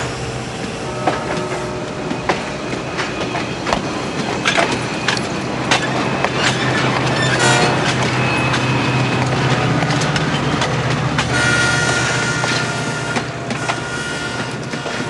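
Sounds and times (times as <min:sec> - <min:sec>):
high wheel squeal: 0:00.0 - 0:15.0
train rolling on rails: 0:00.0 - 0:15.0.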